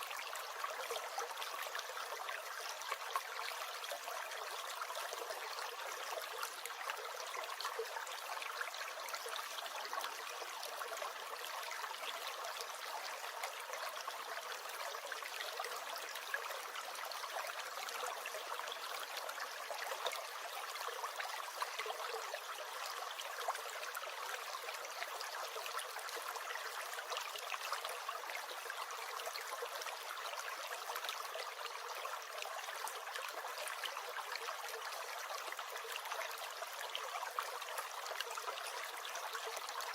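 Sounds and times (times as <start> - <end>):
brook gurgling and trickling: 0.0 - 39.9.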